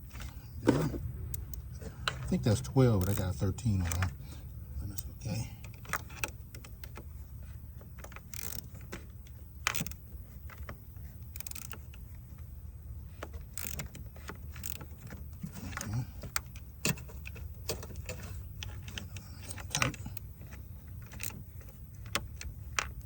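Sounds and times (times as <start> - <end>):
wrench clicking and scraping metal: 0.0 - 12.4, 13.1 - 23.0
steady low hum: 0.0 - 23.0.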